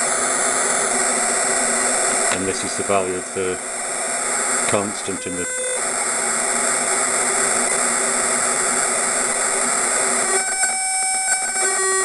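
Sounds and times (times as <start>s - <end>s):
steady pitched tone: 0.0s - 12.0s
steady white noise hiss: 0.0s - 12.0s.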